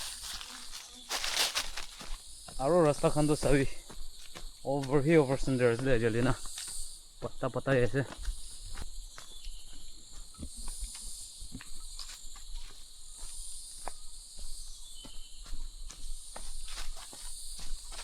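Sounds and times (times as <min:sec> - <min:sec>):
footsteps on a path: 0:00.0 - 0:18.0
insects chirring: 0:00.0 - 0:18.0.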